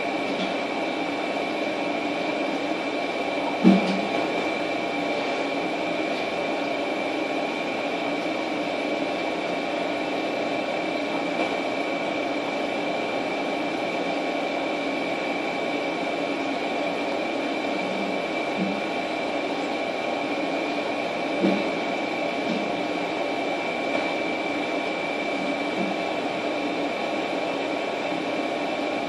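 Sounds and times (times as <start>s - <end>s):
machine hum with high whine: 0.0s - 29.0s.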